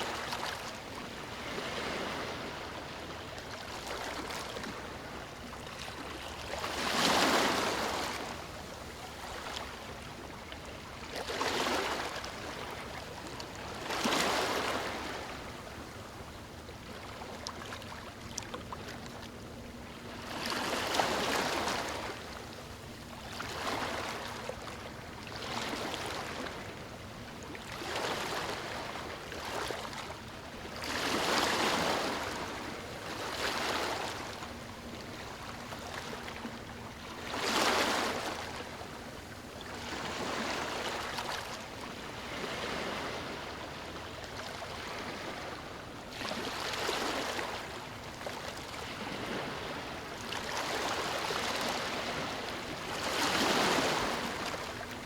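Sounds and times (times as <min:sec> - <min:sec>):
ocean waves breaking: 0:00.0 - 0:10.4, 0:18.9 - 0:26.7, 0:27.6 - 0:55.0.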